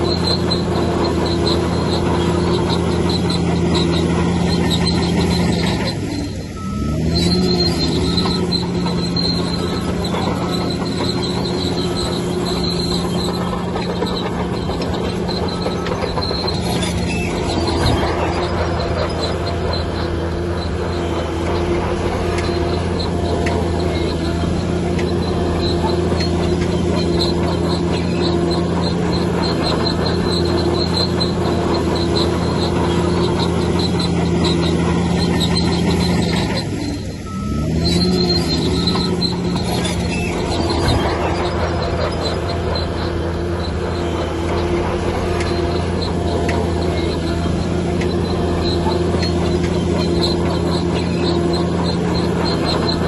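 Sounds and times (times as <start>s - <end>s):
bulldozer engine running: 0.0s - 53.0s
metallic squeal of steel tracks: 0.0s - 53.0s.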